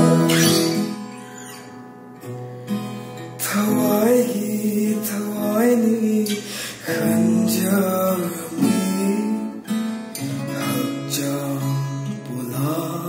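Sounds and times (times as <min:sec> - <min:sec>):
man singing: 0:00.0 - 0:01.1, 0:03.4 - 0:13.0
acoustic guitars playing chords: 0:00.0 - 0:13.0.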